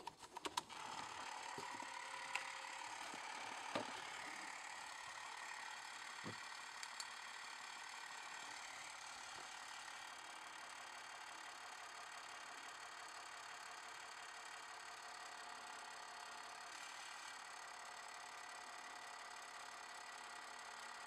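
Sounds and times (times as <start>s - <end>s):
movie camera motor whirring: 0.3s - 21.0s.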